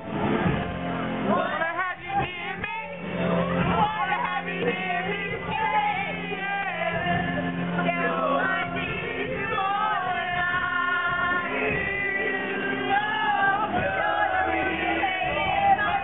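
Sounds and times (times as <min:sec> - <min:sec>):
music with held low notes: 0:00.0 - 0:16.0.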